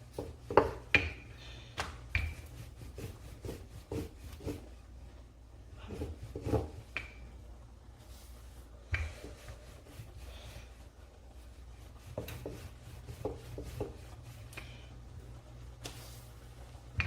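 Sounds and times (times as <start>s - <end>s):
rolling pin rubbing dough: 0.0s - 1.2s, 2.1s - 7.2s, 7.9s - 16.8s
steady low hum: 0.0s - 17.0s.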